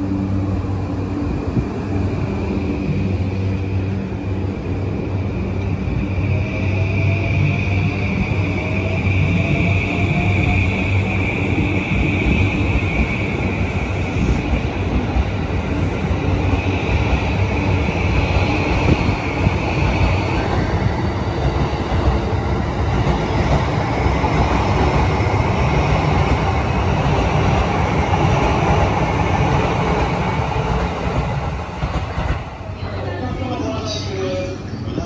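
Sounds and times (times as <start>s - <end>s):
electric train running past: 0.0s - 35.0s.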